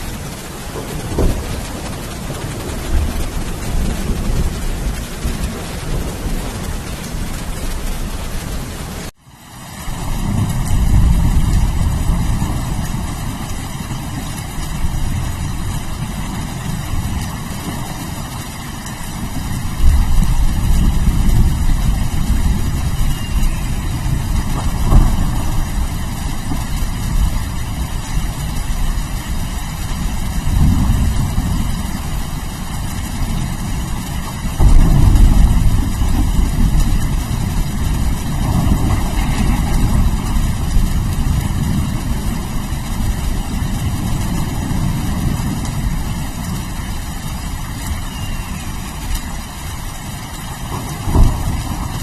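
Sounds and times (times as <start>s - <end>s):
rolling thunder: 0.0s - 9.1s, 9.9s - 52.0s
steady rain: 0.0s - 52.0s.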